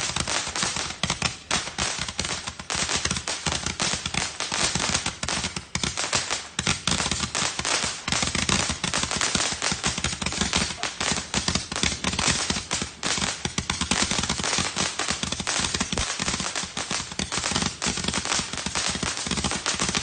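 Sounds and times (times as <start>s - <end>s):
fireworks barrage firing rapidly: 0.0s - 20.0s.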